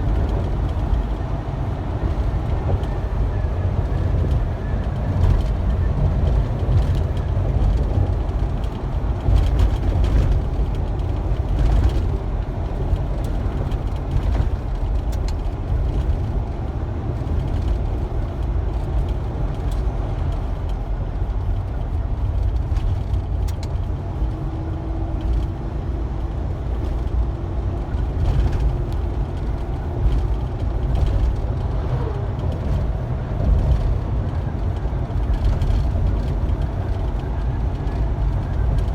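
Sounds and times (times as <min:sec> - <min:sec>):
truck driving: 0:00.0 - 0:38.9.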